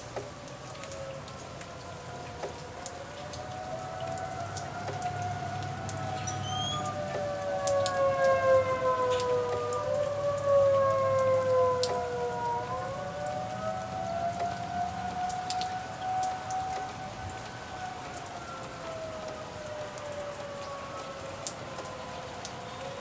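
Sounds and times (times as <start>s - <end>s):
steady rain with drips: 0.0s - 23.0s
warning sirens wailing: 0.0s - 23.0s.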